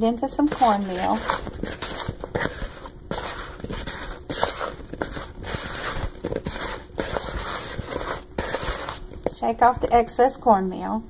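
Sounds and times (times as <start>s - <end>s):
hand stirring okra in cornmeal: 0.3s - 10.0s.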